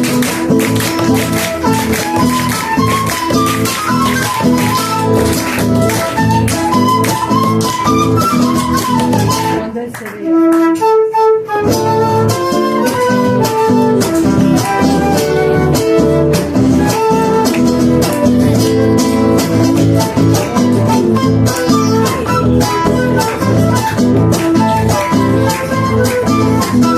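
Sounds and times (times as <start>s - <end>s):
guitars strumming: 0.0s - 9.9s, 11.4s - 26.9s
flutes playing: 0.0s - 26.9s.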